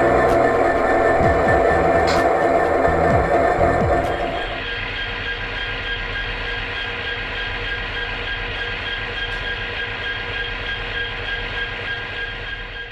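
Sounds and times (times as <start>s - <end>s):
high whining tones: 0.0s - 12.9s
train rumbling: 0.0s - 12.9s.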